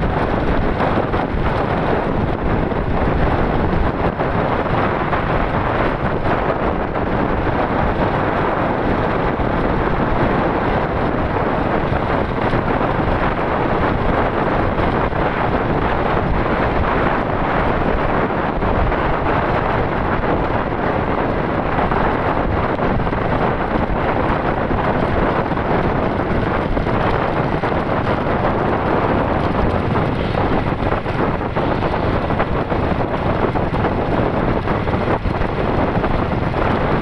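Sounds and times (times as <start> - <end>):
vehicle running noise: 0.0 - 37.0
wind buffeting microphone: 0.0 - 37.0.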